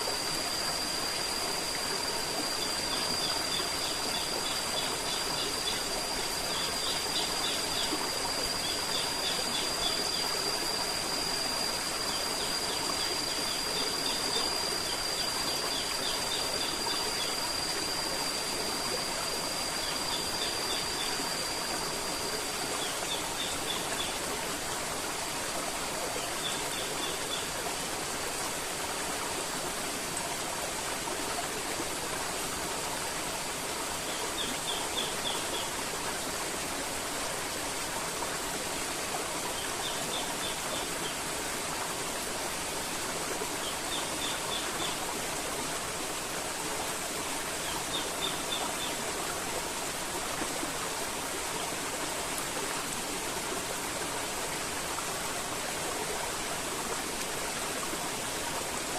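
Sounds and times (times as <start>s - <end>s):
river water flowing: 0.0s - 58.9s.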